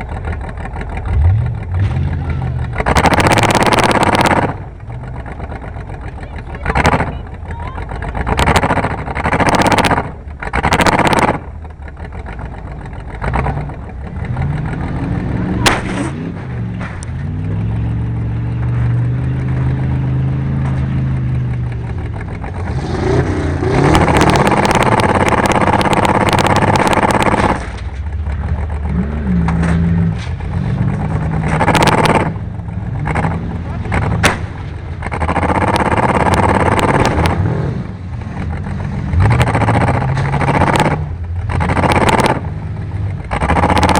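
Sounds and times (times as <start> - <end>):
race car engines revving: 0.0 - 43.9.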